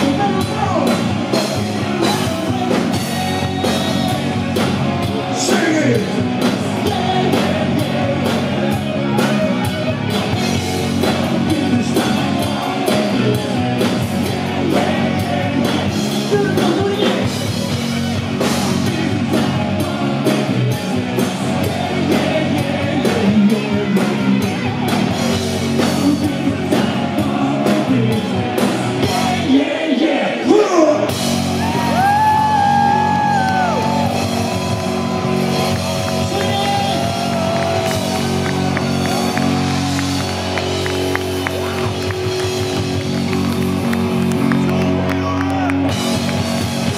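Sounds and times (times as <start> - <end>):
singing and shouted vocals: 0.0 - 42.3
distorted guitars: 0.0 - 46.9
drums: 0.0 - 46.9.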